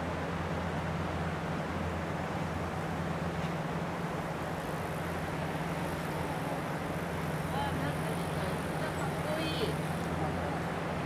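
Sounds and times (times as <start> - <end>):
helicopter rotor drone: 0.4 - 11.0.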